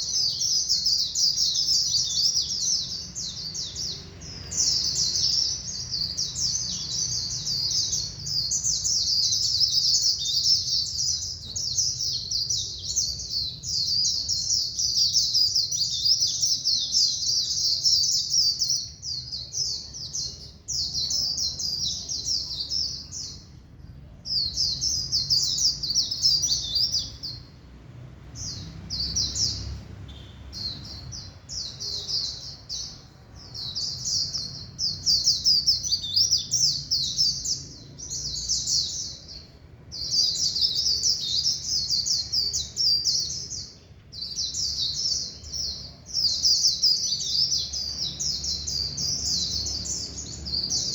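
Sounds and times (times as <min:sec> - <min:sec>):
bird twittering song: 0:00.0 - 0:50.9.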